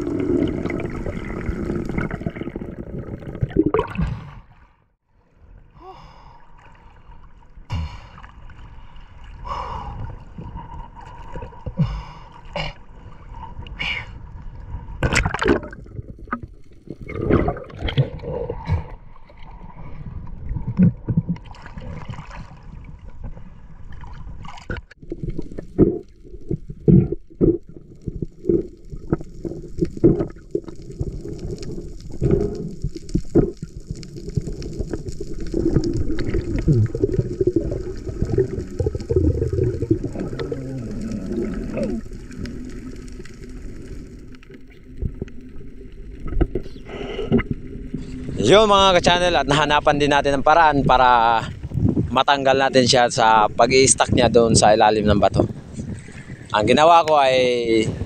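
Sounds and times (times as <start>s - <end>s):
sea water sloshing and gurgling: 0.0s - 58.0s.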